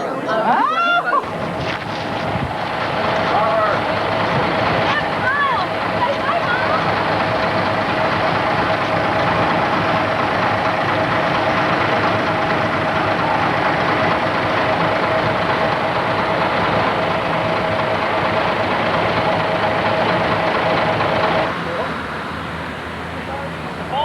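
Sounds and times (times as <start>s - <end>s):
constant hum: 0.0s - 21.9s
engine drone: 1.1s - 24.0s.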